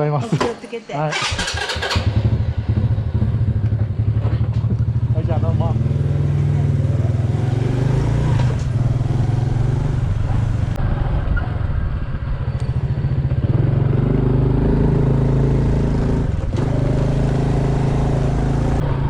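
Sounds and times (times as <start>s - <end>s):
motorcycle engine accelerating: 1.1s - 19.0s.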